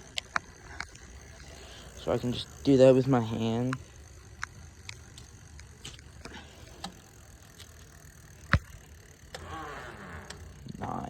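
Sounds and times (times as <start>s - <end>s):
bicycle parts clicking: 0.0s - 11.0s.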